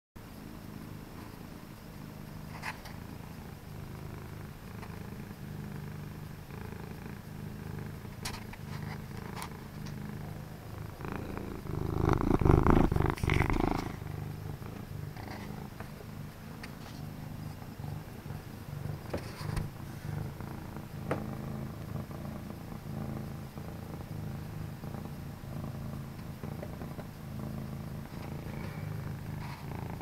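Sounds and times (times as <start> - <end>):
cat purring: 0.4 - 30.0.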